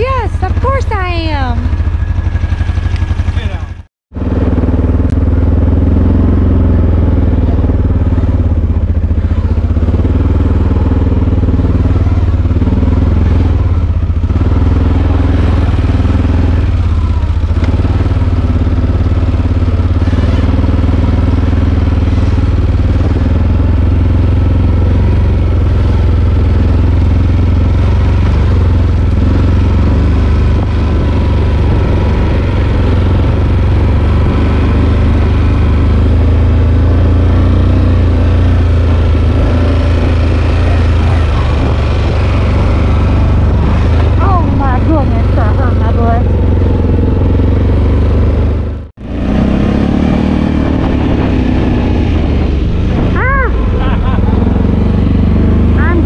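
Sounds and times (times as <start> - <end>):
engine running with low hum: 0.0 - 56.0.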